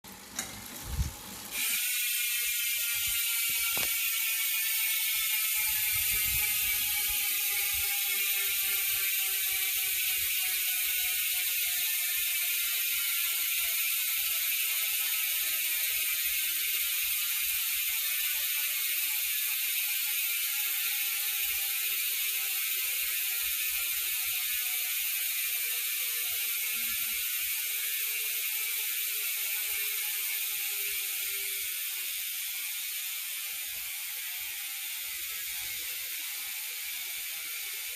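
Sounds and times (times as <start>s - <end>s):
bicycle freehub ratcheting: 0.1s - 37.9s.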